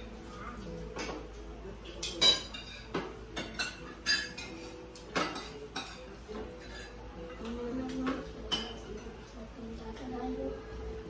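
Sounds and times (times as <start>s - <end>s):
cutlery clinking against plates: 0.0s - 9.3s.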